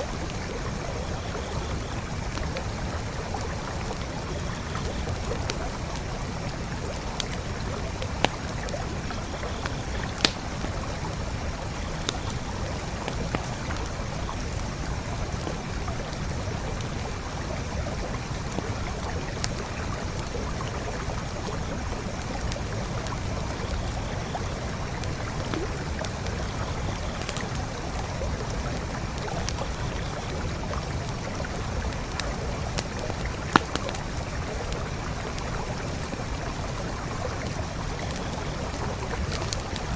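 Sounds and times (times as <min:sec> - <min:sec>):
campfire popping: 0:00.0 - 0:39.9
creek flowing: 0:00.0 - 0:39.9.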